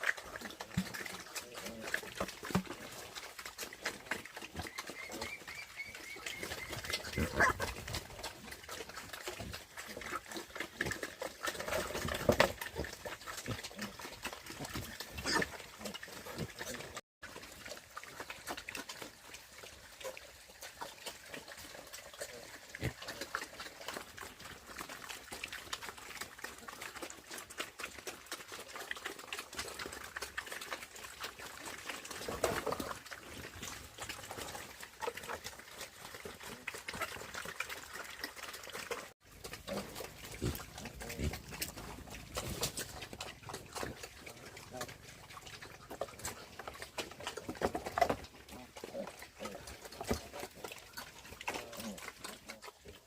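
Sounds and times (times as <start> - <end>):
pigs grunting: 0.0 - 53.0.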